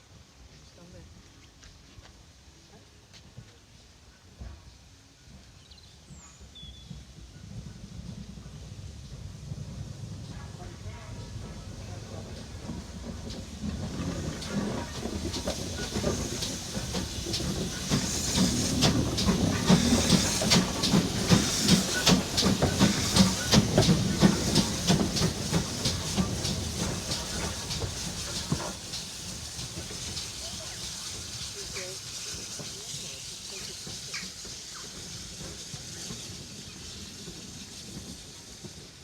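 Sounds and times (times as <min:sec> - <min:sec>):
steam train passing: 0:00.0 - 0:39.0
hissing steam: 0:01.9 - 0:39.0.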